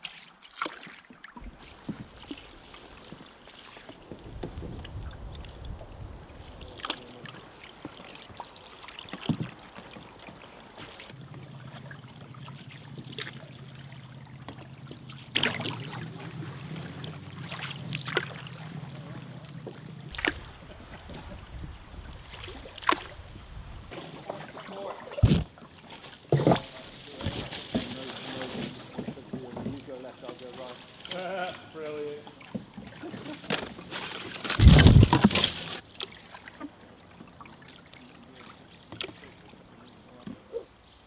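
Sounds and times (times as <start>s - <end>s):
paddle splashing in water: 0.0s - 40.8s.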